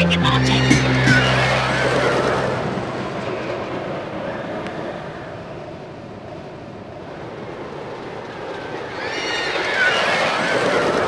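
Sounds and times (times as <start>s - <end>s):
rushing rumble on rails: 0.5s - 11.0s.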